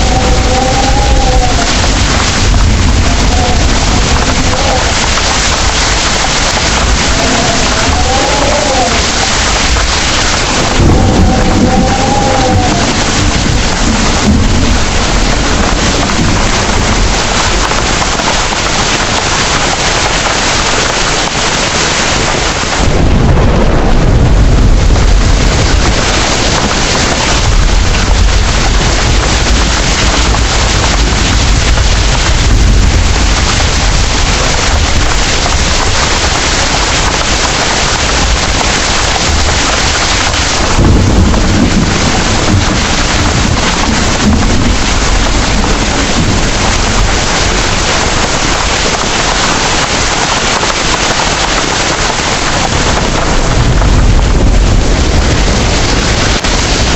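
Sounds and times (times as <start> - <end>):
heavy rain pouring: 0.0 - 56.9
thunder rumbling: 0.0 - 56.9.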